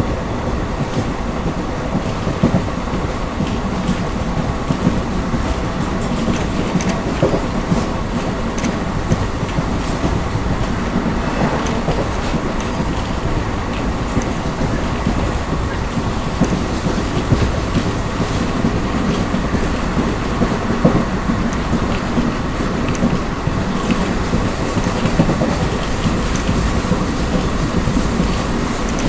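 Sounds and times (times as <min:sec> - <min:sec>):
train coaches rumbling: 0:00.0 - 0:29.0
wheels clicking over rail joints: 0:00.5 - 0:29.0.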